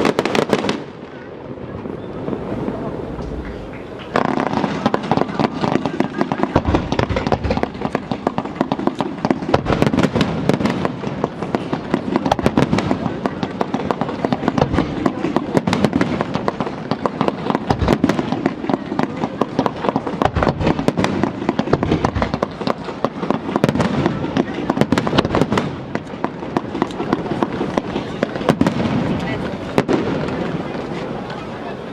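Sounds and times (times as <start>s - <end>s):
fireworks bursts and crackles: 0.0s - 31.9s.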